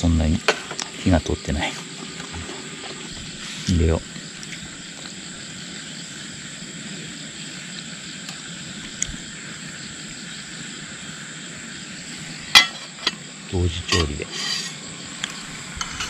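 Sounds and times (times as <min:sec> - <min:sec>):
pasta sizzling in a pot: 0:01.8 - 0:16.0.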